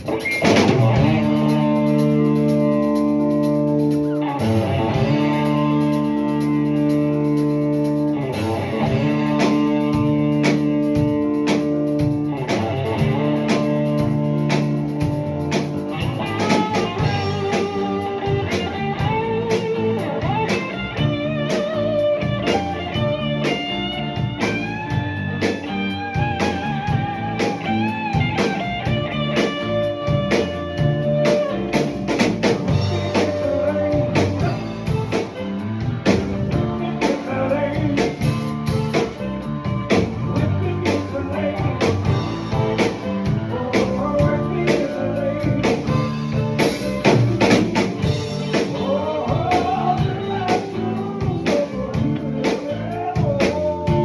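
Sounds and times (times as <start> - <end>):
electric guitar lead: 0.0 - 54.0
rock band playing: 0.0 - 54.0.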